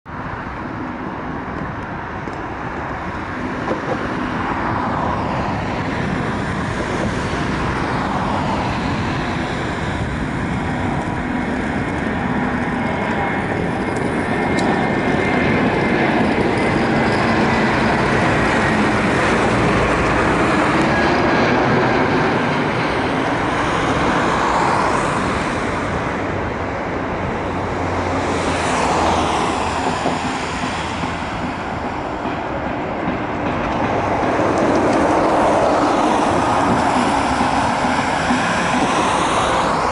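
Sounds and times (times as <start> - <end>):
jet engines roaring: 0.1 - 39.9.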